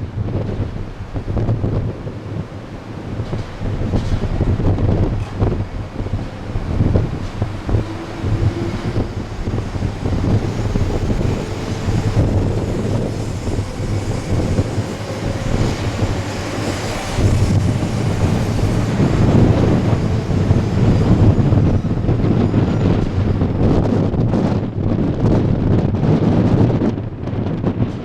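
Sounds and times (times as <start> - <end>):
train rail noise: 0.0 - 28.0
wind buffeting microphone: 0.0 - 28.0.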